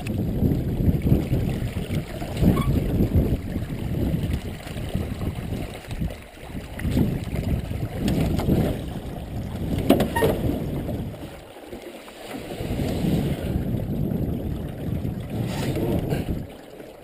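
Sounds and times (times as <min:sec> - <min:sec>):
water swishing around canoe: 0:00.0 - 0:17.0.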